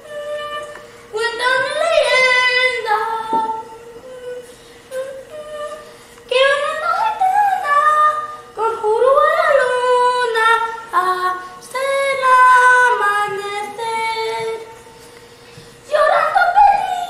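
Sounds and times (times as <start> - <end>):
woman singing unaccompanied: 0.0 - 14.8, 15.9 - 17.0.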